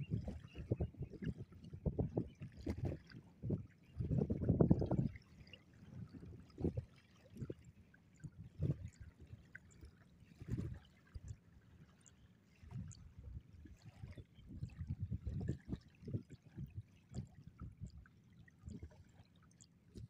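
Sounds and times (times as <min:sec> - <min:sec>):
water sloshing in low surges: 0:00.0 - 0:20.0.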